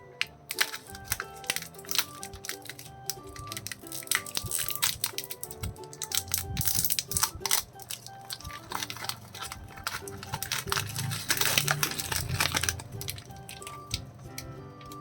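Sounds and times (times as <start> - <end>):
background music: 0.0 - 15.0
plastic wrappers crinkling: 0.0 - 15.0.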